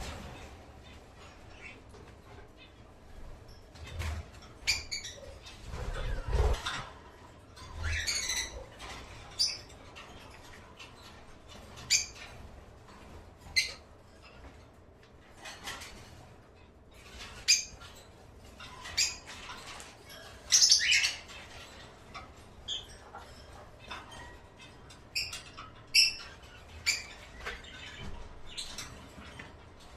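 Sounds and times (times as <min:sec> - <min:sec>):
caged birds chirping: 0:00.0 - 0:29.9.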